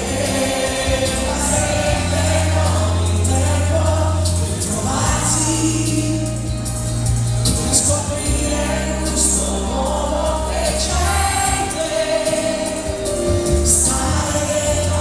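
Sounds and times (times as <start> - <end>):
band playing: 0.0 - 15.0
man singing through microphone: 0.0 - 15.0.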